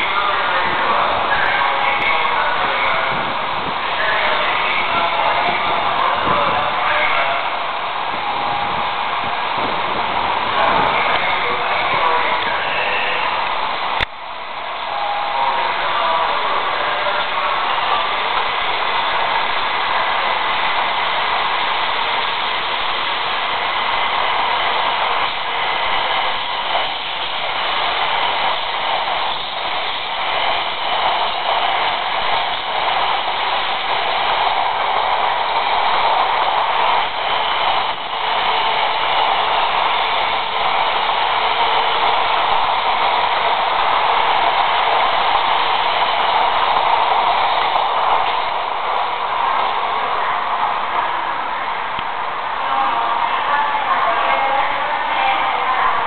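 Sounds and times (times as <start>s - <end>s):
train passing at close range: 0.0s - 56.0s.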